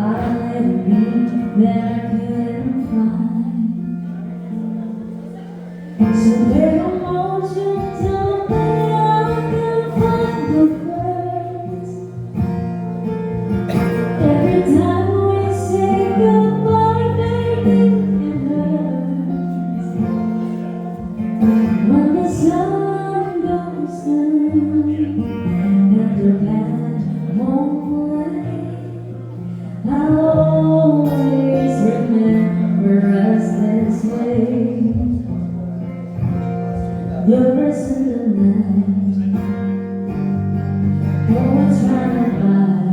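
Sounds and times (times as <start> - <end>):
woman singing: 0.0 - 4.2, 5.9 - 12.6, 13.9 - 35.6, 37.2 - 42.9
acoustic guitar: 0.0 - 42.9.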